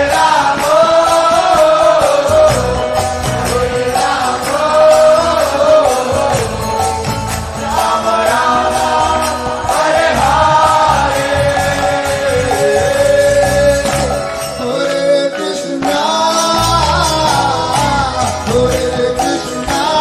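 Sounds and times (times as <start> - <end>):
rhythmic drum beat: 0.0 - 20.0.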